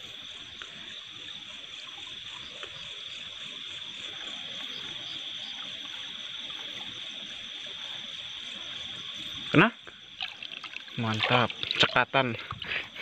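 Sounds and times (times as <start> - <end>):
faint water movement: 0.0 - 13.0
night insects chorus: 0.0 - 13.0.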